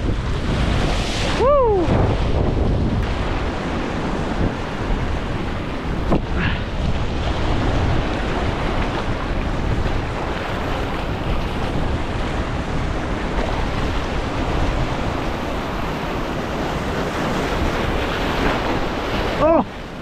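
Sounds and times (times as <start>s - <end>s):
surf washing over rocks: 0.0s - 20.0s
wind rumbling on microphone: 0.0s - 20.0s.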